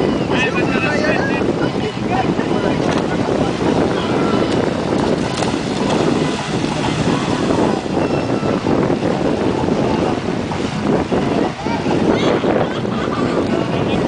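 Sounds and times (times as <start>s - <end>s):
wind buffeting microphone: 0.0s - 14.0s
small waves washing: 0.4s - 12.3s.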